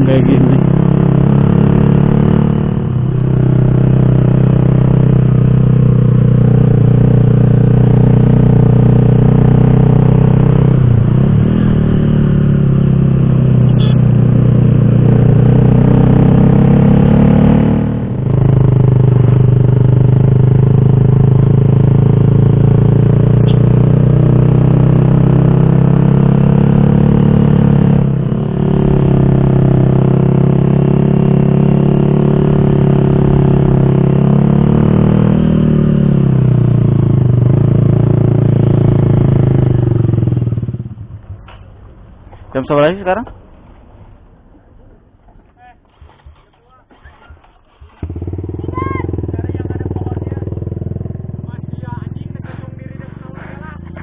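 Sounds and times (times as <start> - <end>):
motorcycle engine running: 0.0 - 43.8, 47.7 - 54.0.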